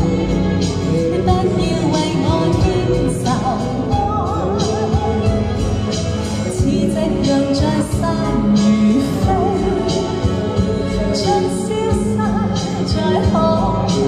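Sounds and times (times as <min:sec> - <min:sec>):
recorded backing track: 0:00.0 - 0:14.0
woman singing pop ballad: 0:00.0 - 0:14.0.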